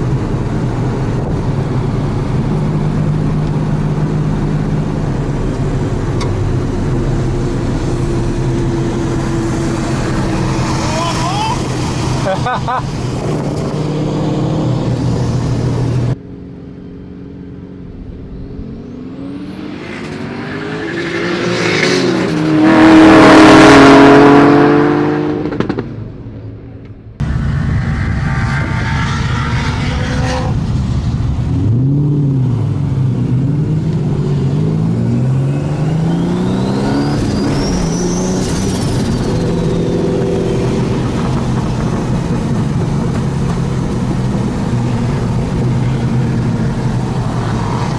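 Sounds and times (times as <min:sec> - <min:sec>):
high whines: 0:00.0 - 0:26.4, 0:27.0 - 0:47.9
race cars passing at full throttle: 0:00.0 - 0:26.6, 0:27.2 - 0:47.9
engine revving up and down: 0:03.0 - 0:16.2, 0:18.0 - 0:26.0, 0:27.2 - 0:47.9.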